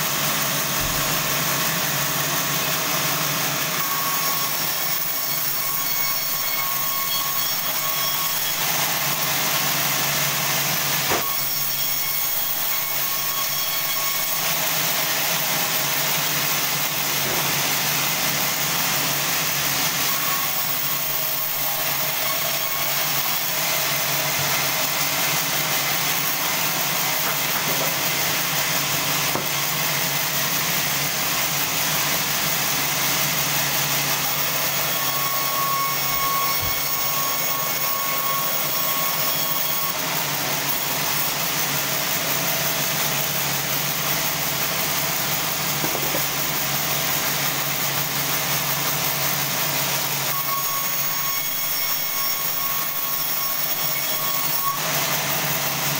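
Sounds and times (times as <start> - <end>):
band saw cutting log: 0.0 - 55.9.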